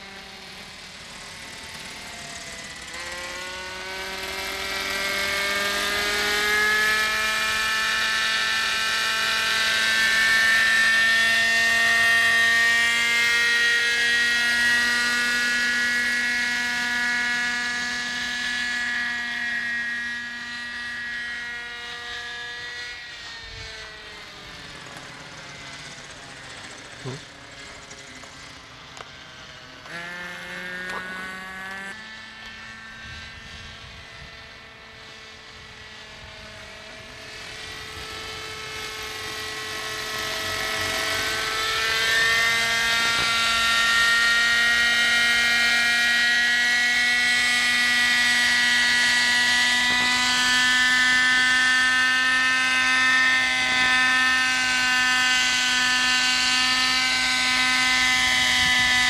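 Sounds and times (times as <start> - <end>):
model helicopter engine whine: 0.0 - 59.0.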